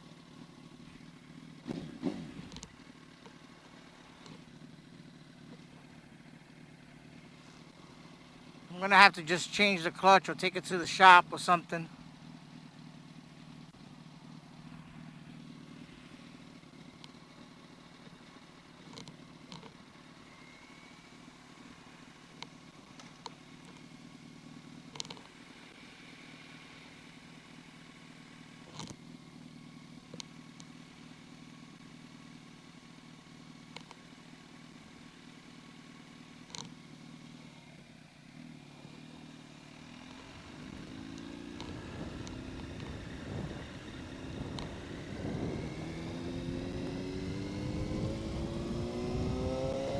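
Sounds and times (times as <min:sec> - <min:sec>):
motorcycle engine idling: 0:00.0 - 0:49.9.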